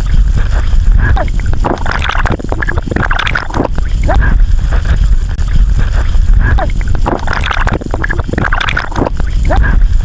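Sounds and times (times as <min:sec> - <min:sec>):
distorted looping voice clip: 0:00.0 - 0:10.0.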